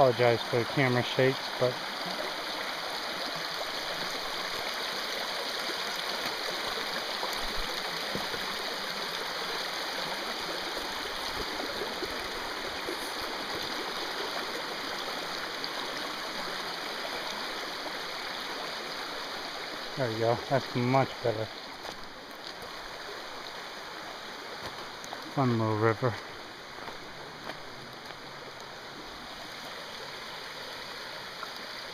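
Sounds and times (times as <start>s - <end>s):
river water rushing over rocks: 0.0s - 31.9s.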